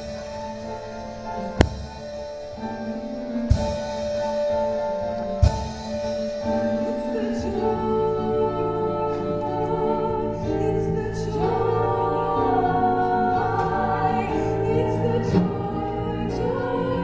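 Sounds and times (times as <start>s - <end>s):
musical theatre accompaniment: 0.0s - 17.0s.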